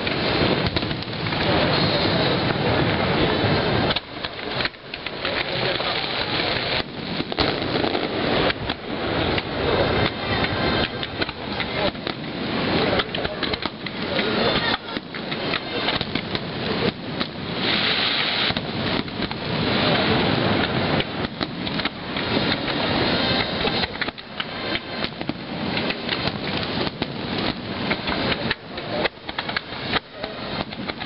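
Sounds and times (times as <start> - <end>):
firework shells bursting: 0.0 - 31.0.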